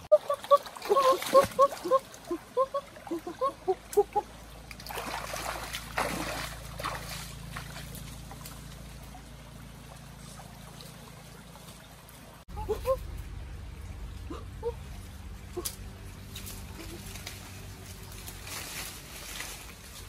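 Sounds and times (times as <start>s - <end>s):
rustling of branches and leaves: 0.0s - 20.0s
stream trickling: 0.0s - 20.0s.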